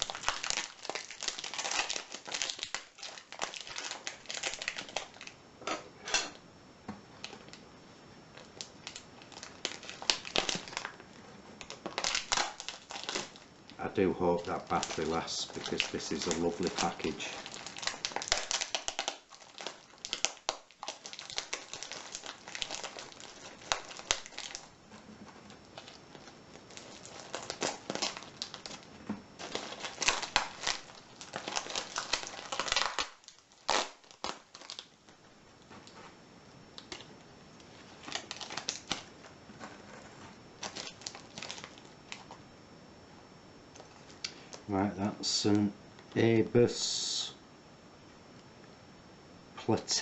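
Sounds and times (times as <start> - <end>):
packaging crinkling and rustling: 0.0 - 5.4, 7.2 - 7.6, 8.3 - 42.4, 43.7 - 44.7.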